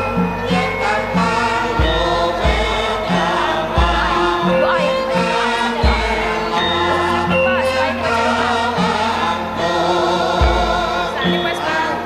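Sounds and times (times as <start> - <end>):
gamelan music: 0.0 - 12.0
voices singing held notes: 0.0 - 12.0.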